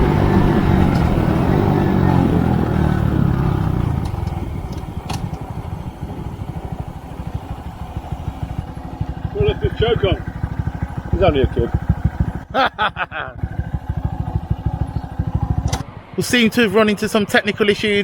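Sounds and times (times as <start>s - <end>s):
motorcycle engine slowing to idle: 0.0s - 16.1s.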